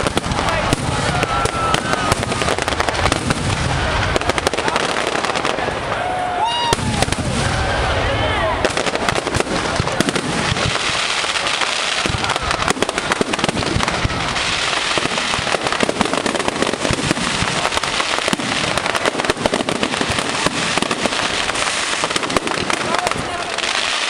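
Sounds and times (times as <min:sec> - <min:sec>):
fireworks banging and crackling: 0:00.0 - 0:24.0.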